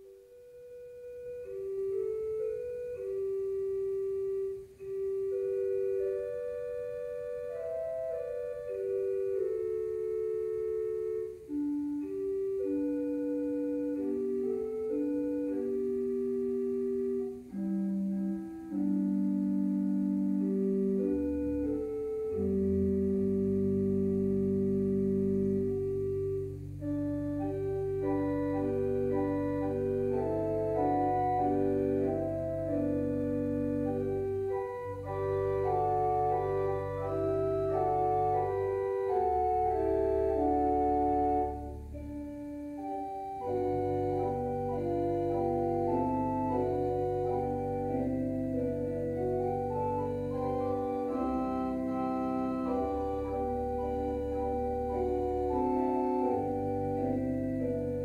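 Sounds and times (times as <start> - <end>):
organ playing slow chords: 0.0 - 58.0
sustained low organ bass notes: 0.0 - 58.0.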